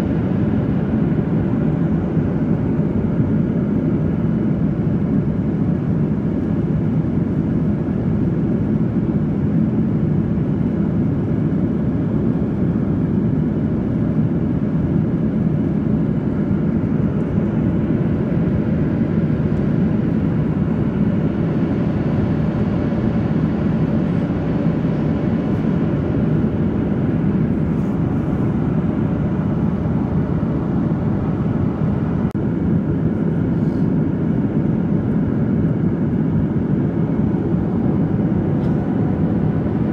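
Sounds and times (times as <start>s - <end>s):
airplane cabin airflow rush: 0.0s - 39.9s
jet engines droning: 0.0s - 39.9s.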